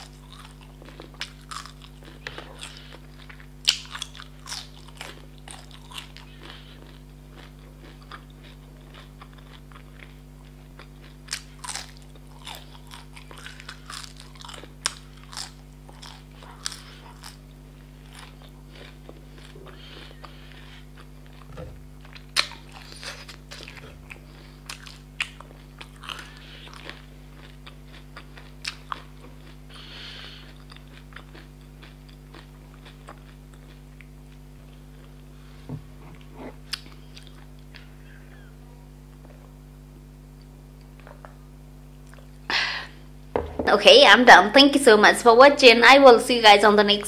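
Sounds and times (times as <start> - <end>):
person chewing: 0.0 - 39.6, 40.3 - 42.5.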